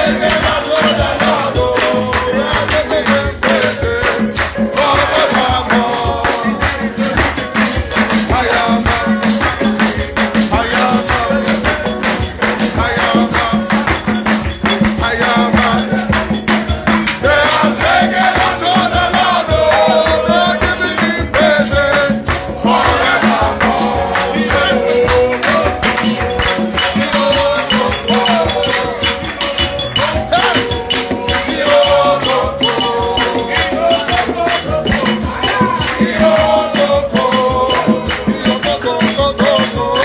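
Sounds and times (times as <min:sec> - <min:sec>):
shaker and rattle percussion: 0:00.0 - 0:40.0.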